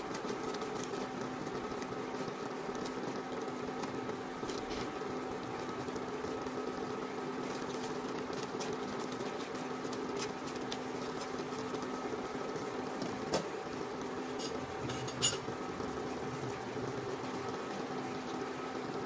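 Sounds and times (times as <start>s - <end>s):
liquid bubbling in a wok: 0.0s - 19.0s.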